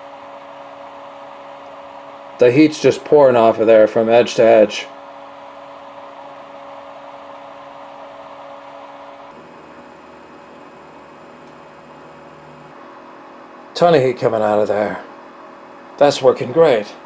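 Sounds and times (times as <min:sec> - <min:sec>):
small fans humming and whirring: 0:00.0 - 0:17.0.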